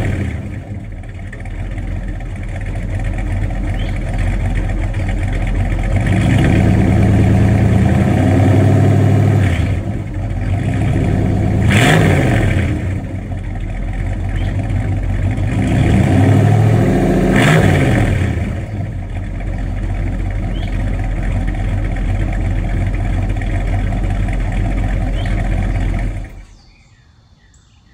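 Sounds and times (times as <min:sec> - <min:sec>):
engine revving and idling: 0:00.0 - 0:26.8.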